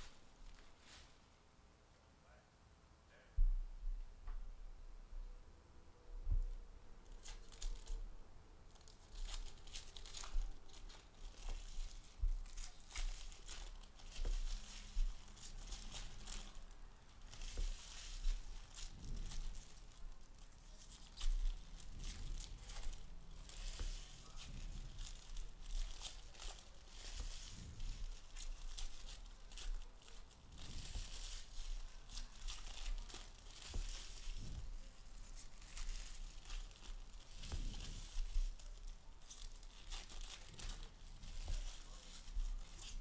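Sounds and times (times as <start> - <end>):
wrappers tearing and crinkling: 7.0 - 8.1, 8.7 - 43.0.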